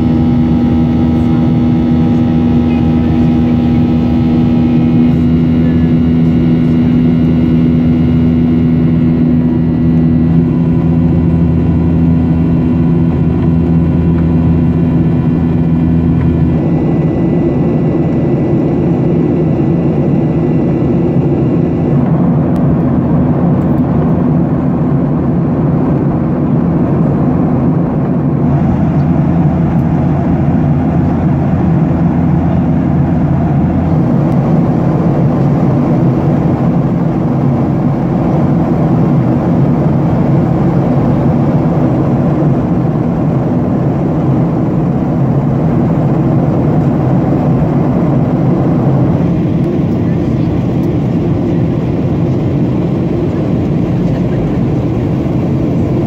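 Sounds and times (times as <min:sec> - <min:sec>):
jet engines droning: 0:00.0 - 0:56.0
low steady hum: 0:00.0 - 0:56.0.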